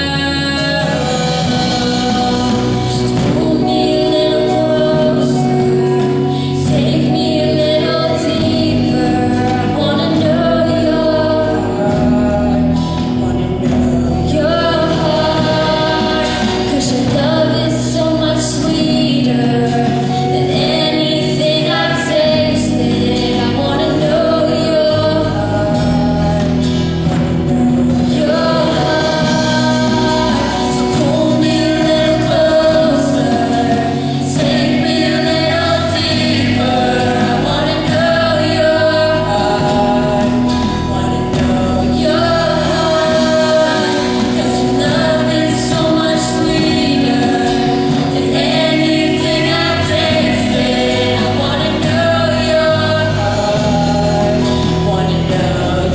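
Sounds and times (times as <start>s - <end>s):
vocal group singing in harmony: 0.0s - 55.9s.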